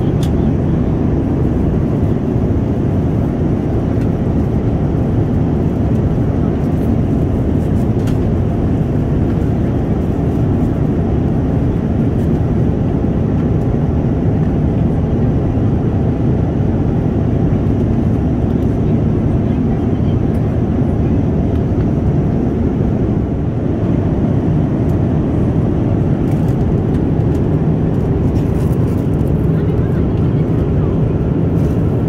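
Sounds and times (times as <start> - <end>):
airliner cabin engine rumble: 0.0 - 32.0.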